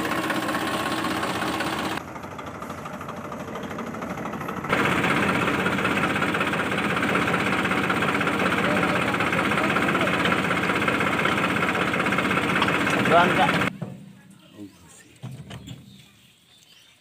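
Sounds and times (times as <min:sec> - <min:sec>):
diesel tractor engine idling: 0:00.0 - 0:14.7.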